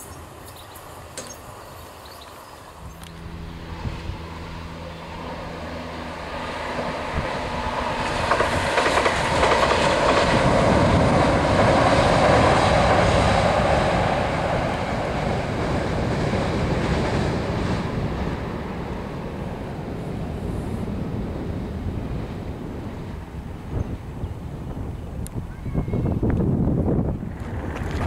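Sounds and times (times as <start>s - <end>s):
train wheels rumbling on bridge: 2.8s - 28.0s.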